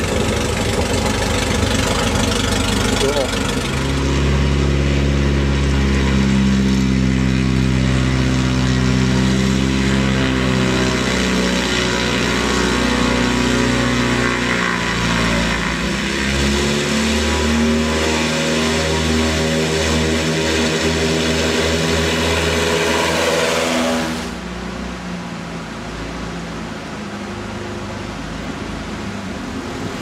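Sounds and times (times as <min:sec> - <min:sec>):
plane engine and propeller: 0:00.0 - 0:30.0.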